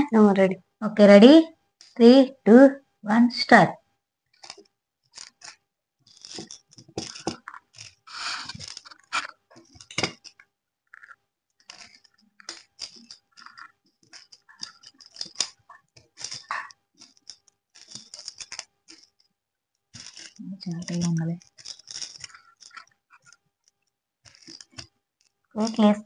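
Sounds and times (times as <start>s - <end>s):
beads clicking against a plate: 4.3s - 26.0s.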